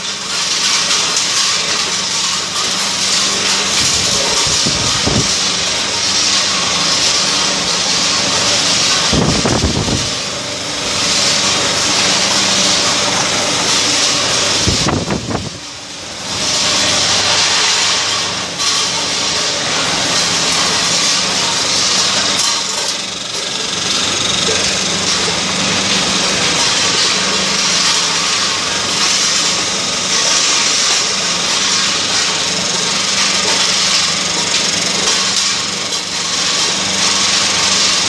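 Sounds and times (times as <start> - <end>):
hissing machinery: 0.0 - 38.0.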